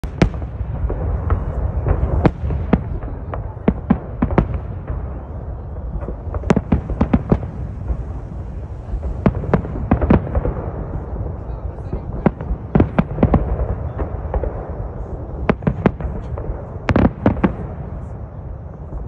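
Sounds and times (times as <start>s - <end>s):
firework bangs: 0.0s - 19.0s
low rumble: 0.0s - 19.0s.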